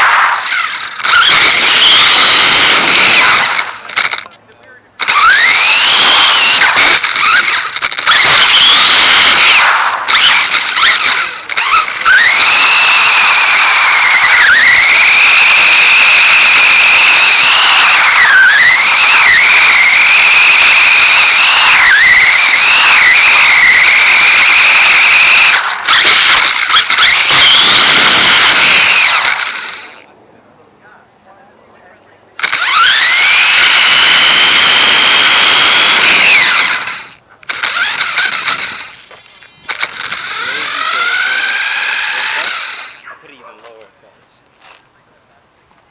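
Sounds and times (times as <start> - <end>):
rc car motor whine: 0.0 - 4.3, 5.0 - 30.1, 32.4 - 43.0.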